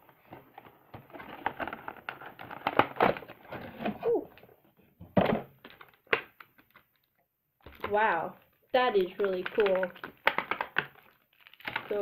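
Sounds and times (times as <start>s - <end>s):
packaging crackling and rustling: 0.1s - 4.5s, 5.6s - 12.0s.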